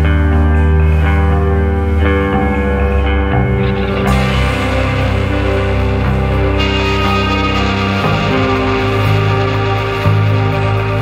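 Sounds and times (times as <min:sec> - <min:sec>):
background music held chords: 0:00.0 - 0:11.0.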